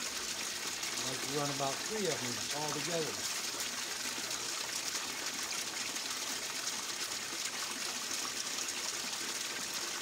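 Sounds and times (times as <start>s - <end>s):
water gushing into a bucket: 0.0s - 10.0s
water running down a sluice box: 0.0s - 10.0s.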